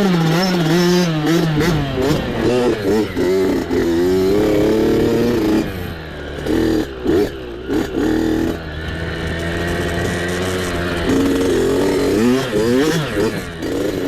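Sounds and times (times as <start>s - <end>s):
mini bike engine revving: 0.0s - 14.0s.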